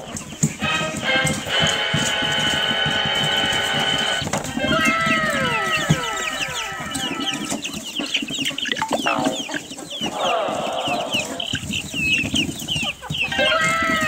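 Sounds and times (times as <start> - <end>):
chicks peeping: 0.0 - 14.0
low clucking: 0.0 - 14.0.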